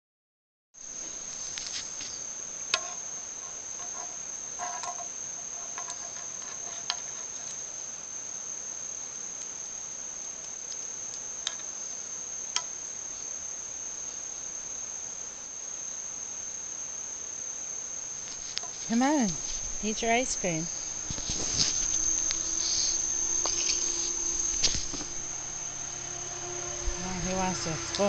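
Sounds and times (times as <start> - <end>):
high-pitched insect trill: 0.8 - 28.0.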